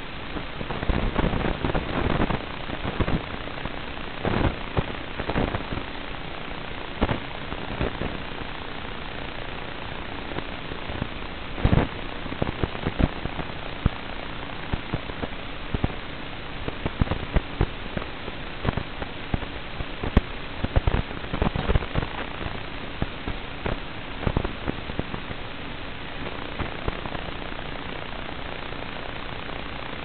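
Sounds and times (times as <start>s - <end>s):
crackles and pops: 0.0s - 30.0s
static hiss: 0.0s - 30.0s.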